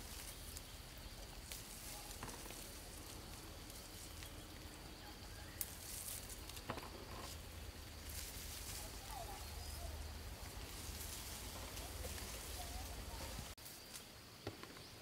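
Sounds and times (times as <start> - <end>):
leaves and branches rustling: 0.0 - 15.0.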